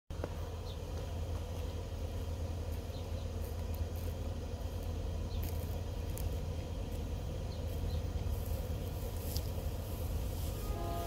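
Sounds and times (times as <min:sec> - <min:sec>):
low outdoor rumble: 0:00.1 - 0:11.0.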